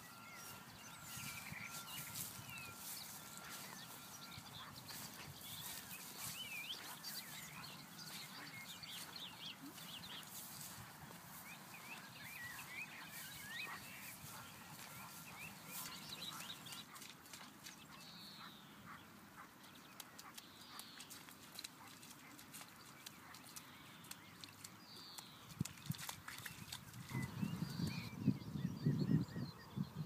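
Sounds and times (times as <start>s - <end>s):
faint birds chirping: 0.0s - 30.0s.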